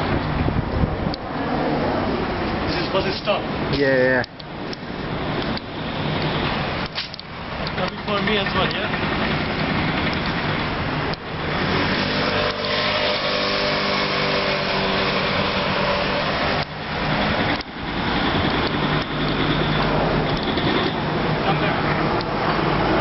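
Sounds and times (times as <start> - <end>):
rushing traffic: 0.0 - 23.0
vehicle engine humming: 0.0 - 23.0.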